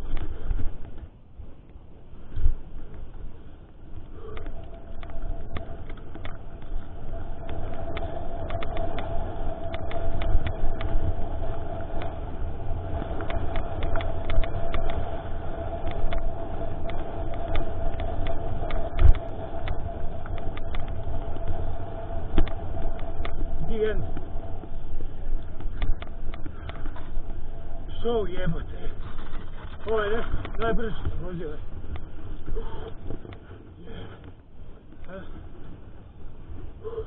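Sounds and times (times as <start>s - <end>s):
bike clicks and rattles: 0.0s - 36.7s
steady hum: 0.0s - 37.0s
tyres on trail: 0.0s - 37.0s
wind on microphone: 0.0s - 37.0s.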